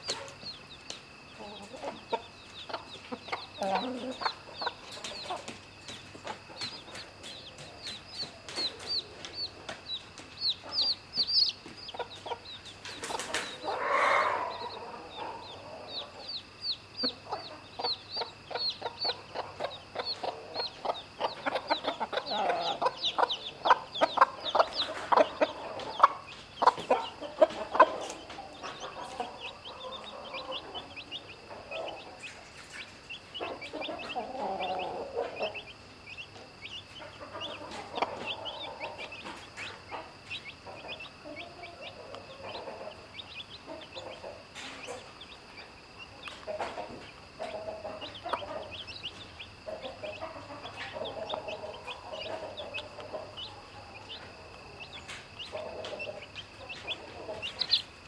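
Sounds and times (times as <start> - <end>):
chicks peeping: 0.0 - 58.0
hen clucking: 0.0 - 58.0.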